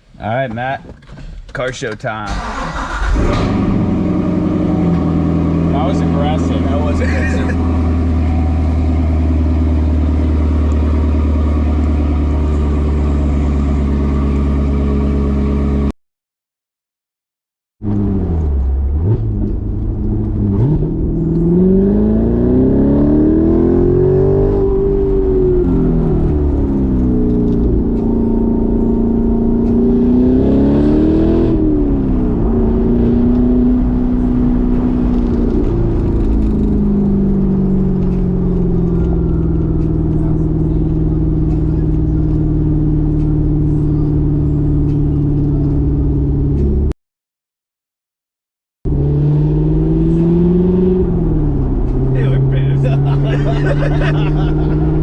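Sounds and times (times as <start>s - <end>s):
vehicle engine droning: 2.2s - 15.9s, 17.8s - 46.9s, 48.9s - 55.0s.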